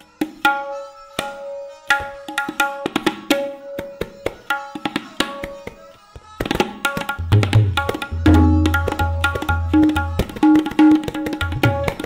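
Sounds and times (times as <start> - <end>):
tabla treble drum strokes: 0.0 - 12.0.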